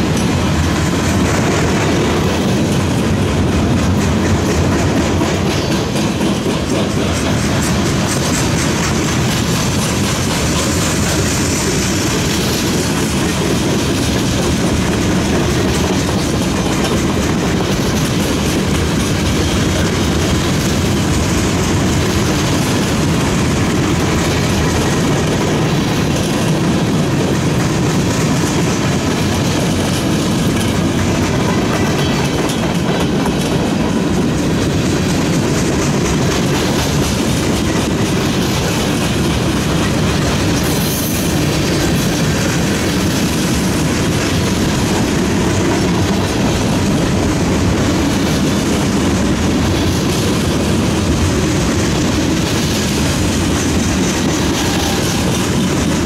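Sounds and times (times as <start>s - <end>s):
train wheels rumbling on rail: 0.0s - 56.0s
wheels clicking over rail joints: 0.0s - 56.0s.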